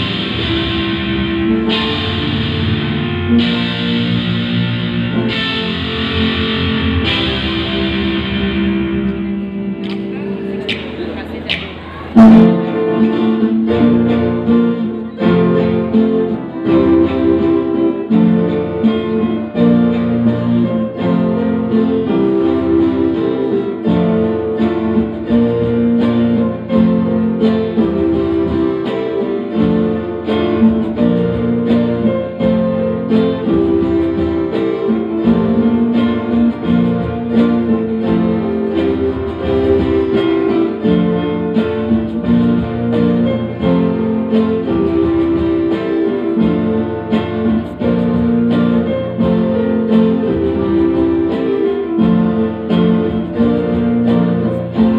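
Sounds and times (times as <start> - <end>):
electric guitar: 0.0 - 54.9
keyboards: 0.0 - 54.9.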